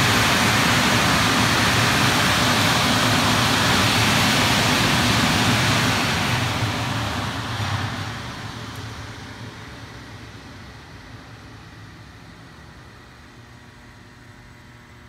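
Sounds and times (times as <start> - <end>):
car wash dryer blowers: 0.0 - 15.0.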